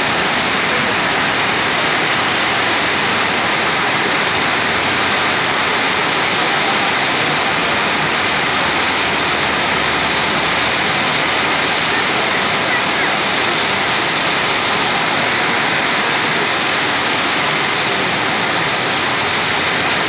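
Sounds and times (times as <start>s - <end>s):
heavy rain on road: 0.0s - 20.0s.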